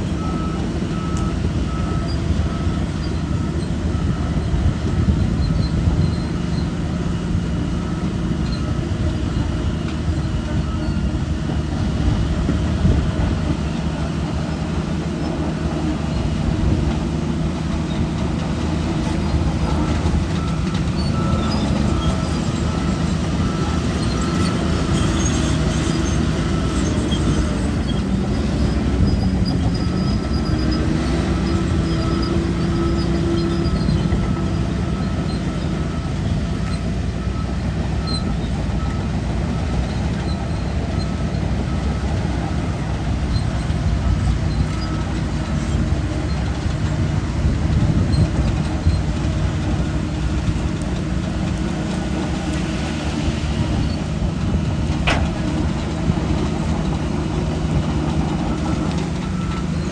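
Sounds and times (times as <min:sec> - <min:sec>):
bulldozer diesel engine under load: 0:00.0 - 0:59.9
steel tracks: 0:02.3 - 0:59.9.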